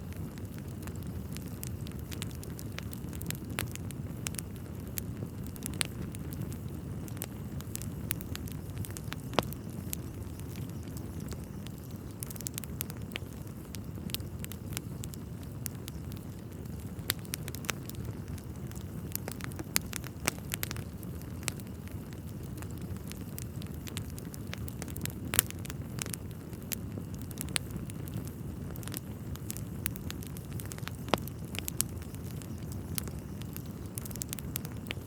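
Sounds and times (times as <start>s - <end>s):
burning logs crackling and popping: 0.0s - 35.0s
fire flames rumbling: 0.0s - 35.0s.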